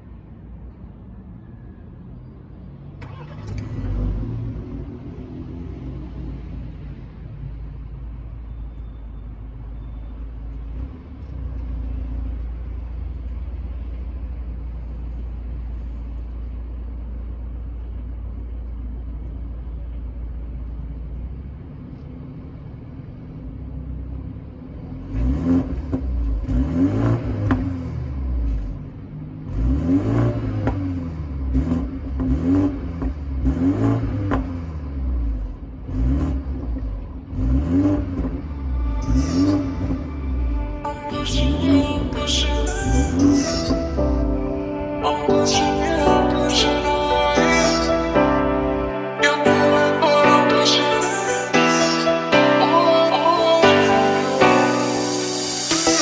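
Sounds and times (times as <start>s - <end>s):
car exhaust idling and revving: 0.0s - 48.9s.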